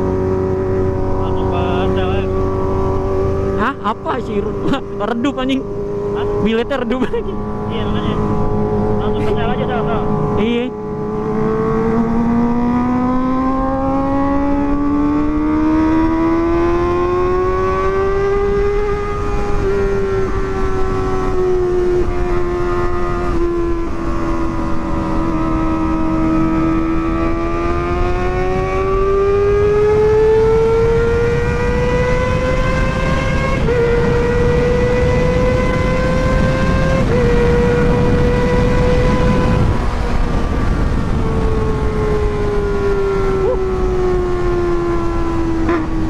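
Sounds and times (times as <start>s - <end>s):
motorcycle engine at high revs: 0.0s - 46.0s.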